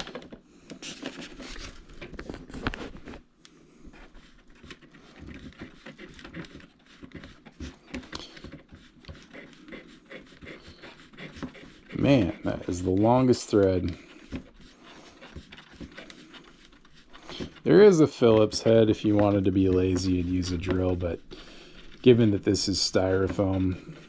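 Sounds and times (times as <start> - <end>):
scratchy rubbing and clicks: 3.9 - 24.0.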